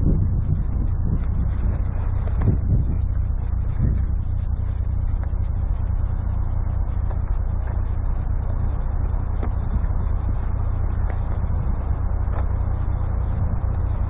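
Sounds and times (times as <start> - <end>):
cloth rubbing on fur: 0.0 - 14.0
steady low rumble: 0.0 - 14.0.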